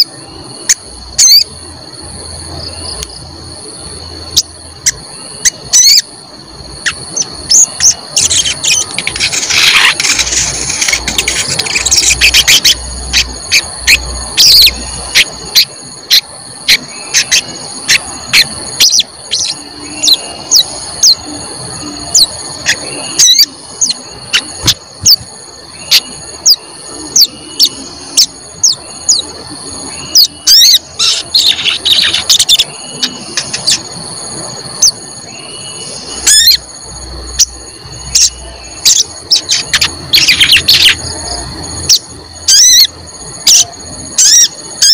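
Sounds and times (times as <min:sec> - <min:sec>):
steady high whine: 0:00.0 - 0:44.9
songbird chirping: 0:02.4 - 0:33.9, 0:34.8 - 0:44.9.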